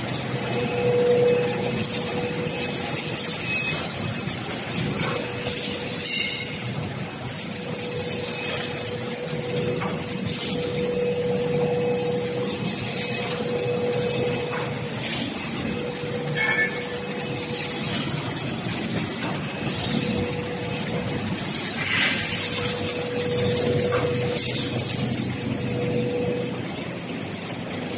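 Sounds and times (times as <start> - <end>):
machine hum: 0.0 - 27.9.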